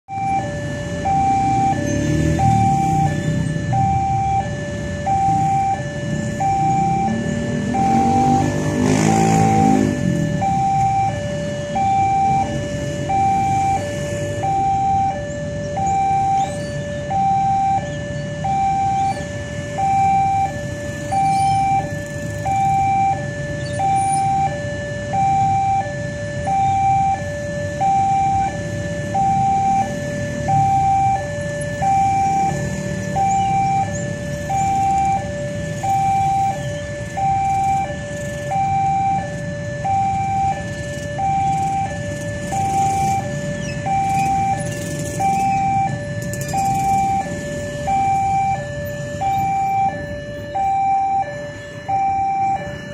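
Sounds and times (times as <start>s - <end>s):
level crossing two-tone alarm: 0.1s - 52.9s
motorcycle engines running: 0.2s - 52.9s.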